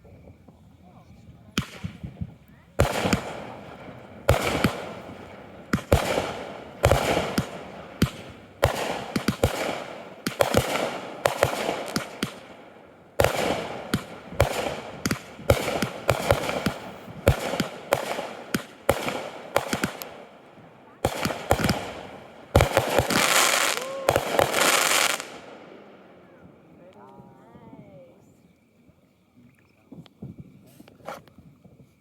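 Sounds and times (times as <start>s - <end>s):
fireworks crackling: 1.4s - 27.4s
fireworks bangs: 1.4s - 28.0s.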